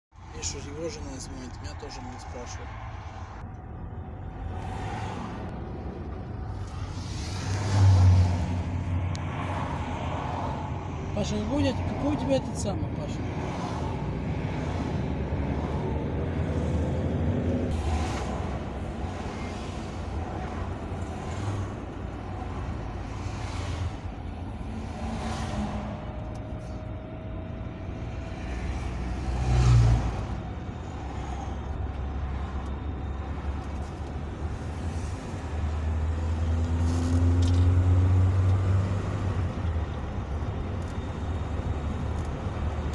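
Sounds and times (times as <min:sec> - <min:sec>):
vehicle engine and road noise: 0:00.1 - 0:42.9.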